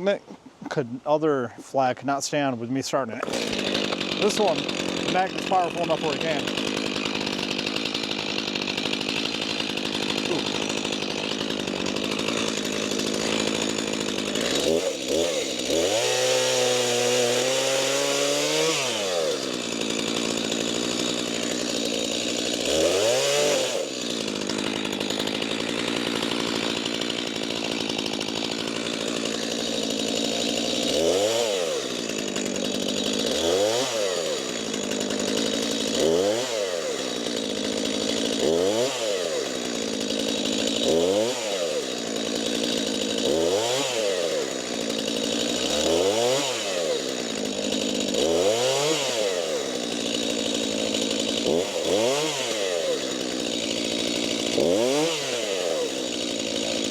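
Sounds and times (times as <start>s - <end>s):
chainsaw cutting logs: 0.0s - 56.9s.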